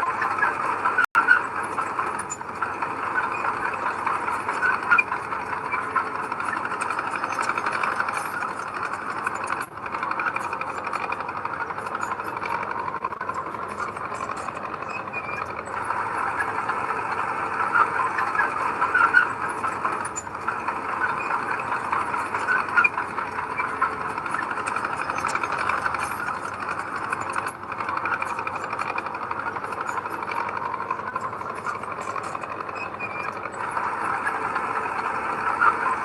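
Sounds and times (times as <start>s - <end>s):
heavy machinery diesel engine: 0.0s - 36.0s
fine rattle: 0.1s - 36.0s.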